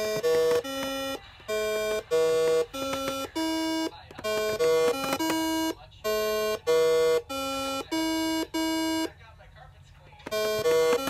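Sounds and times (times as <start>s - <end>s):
electronic game beeps: 0.0s - 9.2s, 10.3s - 11.0s.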